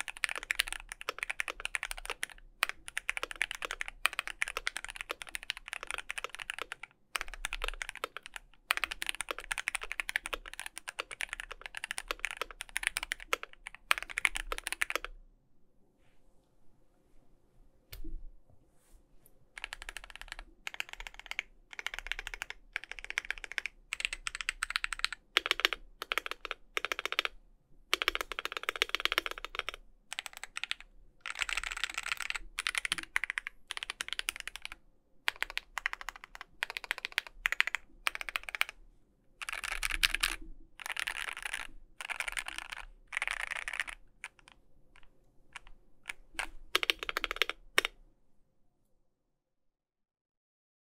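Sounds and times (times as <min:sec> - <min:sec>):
keyboard typing: 0:00.0 - 0:15.2, 0:19.6 - 0:38.8, 0:39.4 - 0:48.0.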